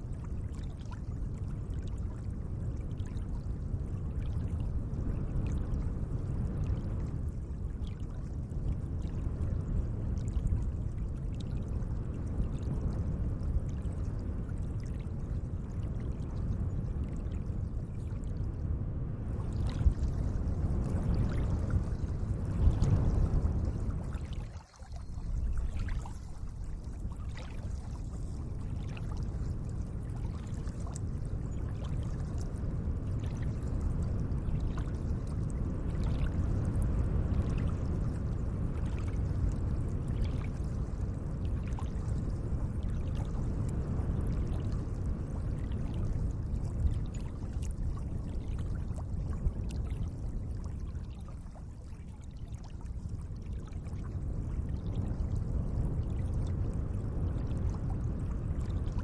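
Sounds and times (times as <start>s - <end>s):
faint ticks and splashes: 0.0s - 59.0s
gentle moving water: 0.0s - 59.0s.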